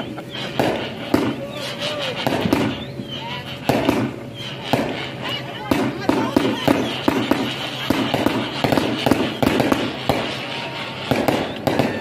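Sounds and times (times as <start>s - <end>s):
fireworks popping and cracking: 0.0s - 12.0s.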